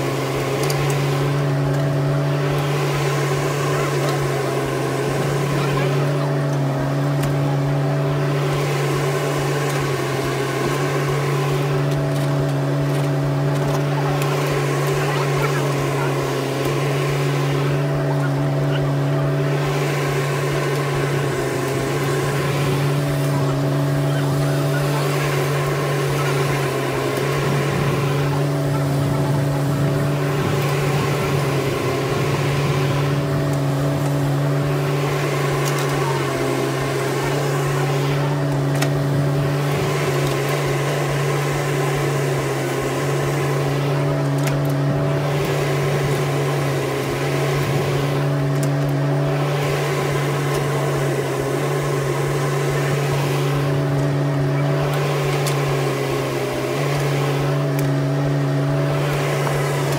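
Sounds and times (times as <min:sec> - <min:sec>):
excavator digging and dumping soil: 0:00.0 - 0:59.9
mini excavator diesel engine: 0:00.0 - 0:59.9.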